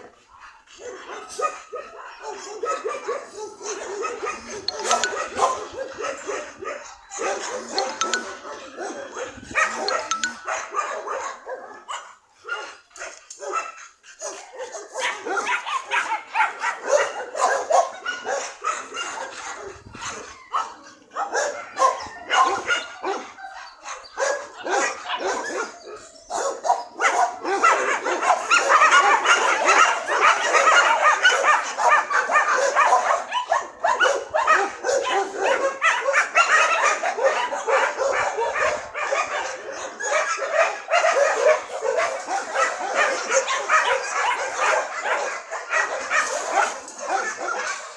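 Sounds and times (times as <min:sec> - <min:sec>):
dogs barking and yipping: 0:00.0 - 0:47.9.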